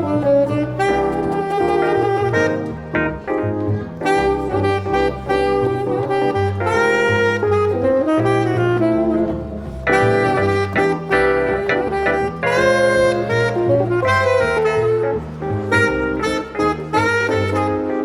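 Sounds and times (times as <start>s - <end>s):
piano chords: 0.0s - 18.0s
tenor saxophone melody: 0.0s - 18.0s.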